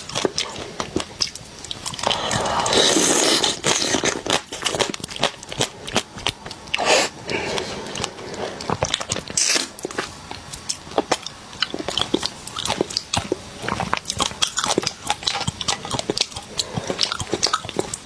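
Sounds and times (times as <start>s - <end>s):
crunching and chewing crab: 0.0s - 18.0s.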